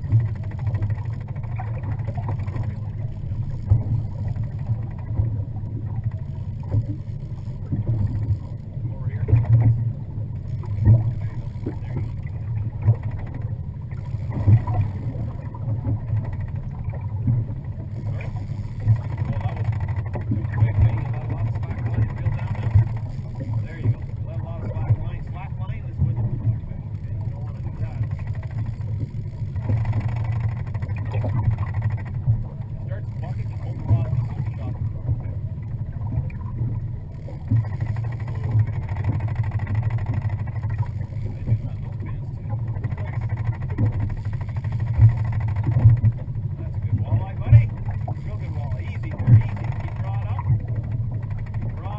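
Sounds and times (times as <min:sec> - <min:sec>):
boat motor running: 0:00.0 - 0:51.9.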